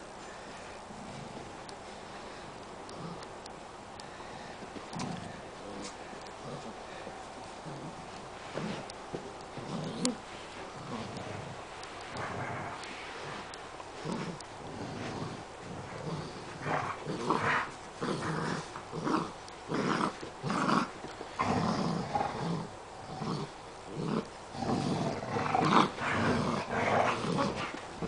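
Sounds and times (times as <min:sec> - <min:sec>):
puppy growling in play: 0:00.6 - 0:03.5, 0:04.5 - 0:28.0.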